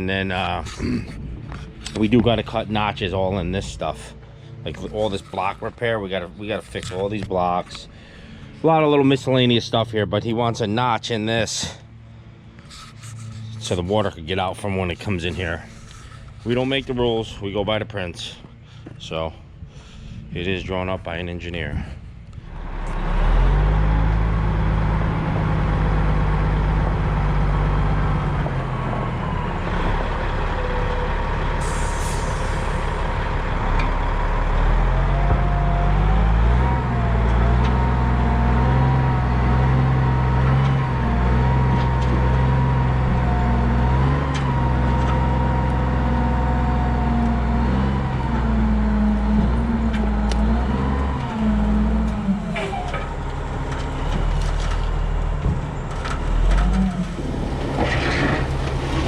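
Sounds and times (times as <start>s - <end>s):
diesel loader engine under load: 0.0s - 59.0s.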